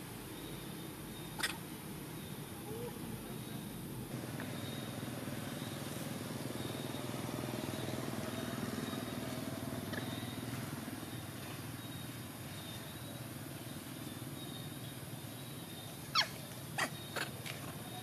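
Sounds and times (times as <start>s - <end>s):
low motor hum: 2.2s - 18.0s.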